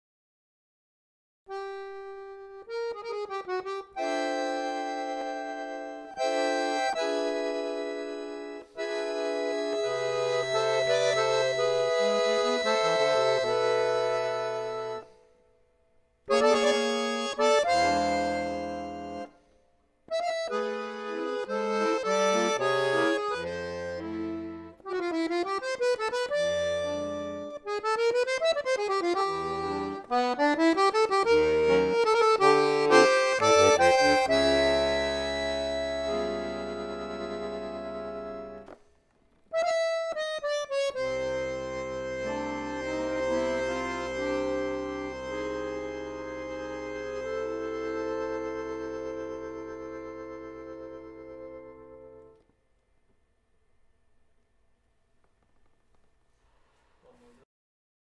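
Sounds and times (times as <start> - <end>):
accordion playing a tango: 1.5 - 15.4, 16.2 - 52.4.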